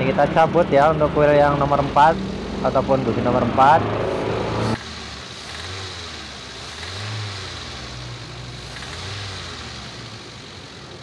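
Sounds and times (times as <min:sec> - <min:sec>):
four-cylinder engine misfiring: 0:00.1 - 0:11.0.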